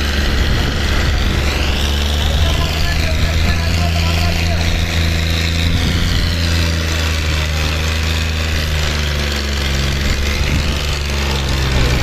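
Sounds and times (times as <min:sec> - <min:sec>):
tractor diesel engines under load: 0:00.0 - 0:12.0.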